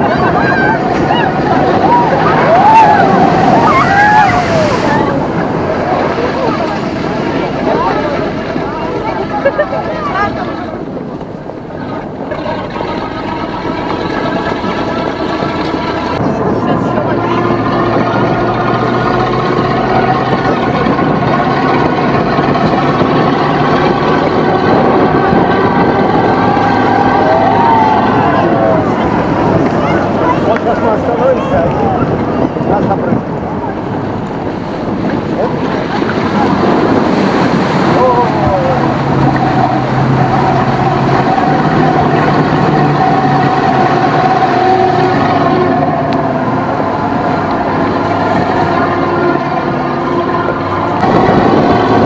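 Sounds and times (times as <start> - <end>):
vehicle engine drone: 0.0 - 52.0.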